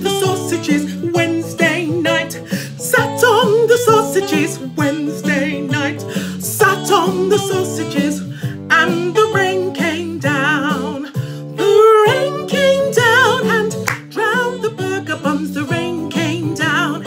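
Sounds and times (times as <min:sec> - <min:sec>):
instrumental accompaniment: 0:00.0 - 0:17.0
woman singing with vibrato: 0:00.0 - 0:17.0.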